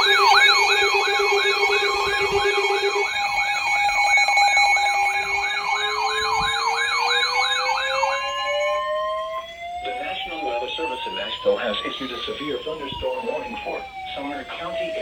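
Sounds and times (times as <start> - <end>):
rising wail siren: 0.0 - 15.0
steady siren tones: 0.0 - 15.0
yelp siren: 0.0 - 15.0.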